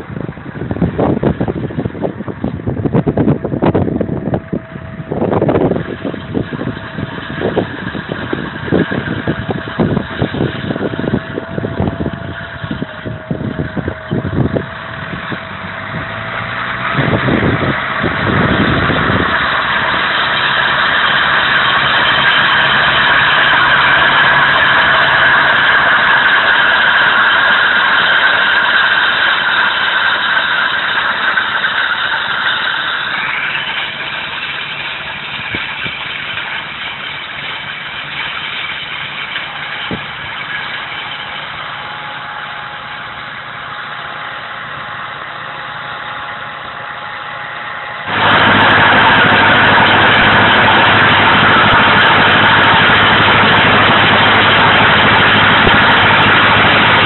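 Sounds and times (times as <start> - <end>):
wind buffeting microphone: 0.0 - 41.6, 48.1 - 57.0
tractor diesel engine running: 0.0 - 57.0.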